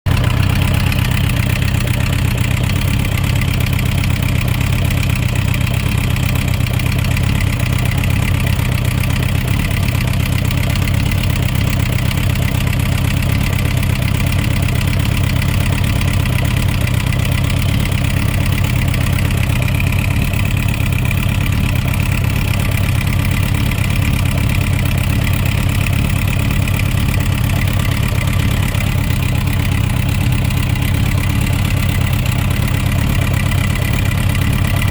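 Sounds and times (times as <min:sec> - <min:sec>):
engine knocking: 0:00.0 - 0:34.9
motorcycle engine idling: 0:00.1 - 0:34.9.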